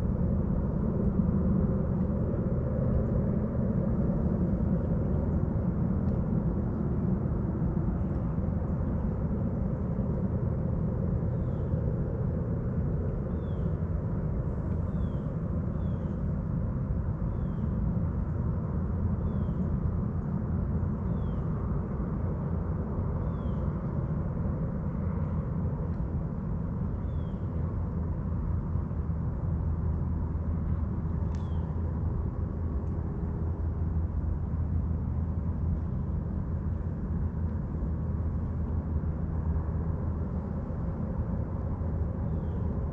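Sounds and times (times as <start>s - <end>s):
distant motor rumble: 0.0s - 42.9s.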